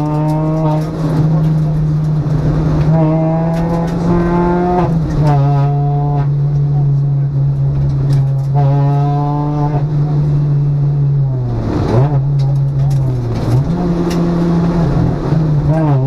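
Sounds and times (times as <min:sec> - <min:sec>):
car engine revving under load: 0:00.0 - 0:16.0
road noise: 0:00.0 - 0:16.0.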